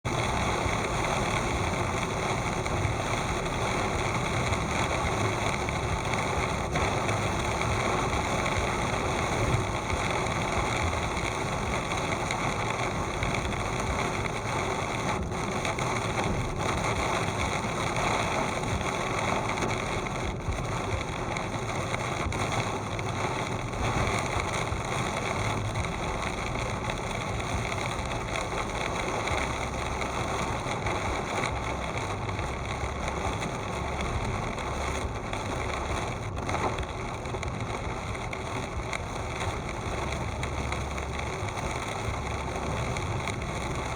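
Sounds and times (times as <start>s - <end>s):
heavy rain: 0.0s - 43.9s
car driving: 0.1s - 43.9s.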